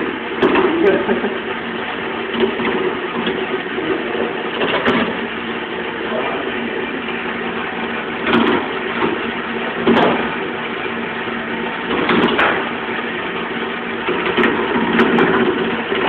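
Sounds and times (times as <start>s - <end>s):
lathe motor hum: 0.0s - 16.0s.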